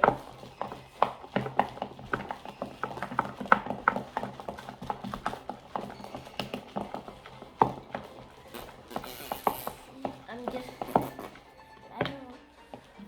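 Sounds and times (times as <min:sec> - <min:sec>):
utensil knocking and scraping bowl: 0:00.0 - 0:13.0.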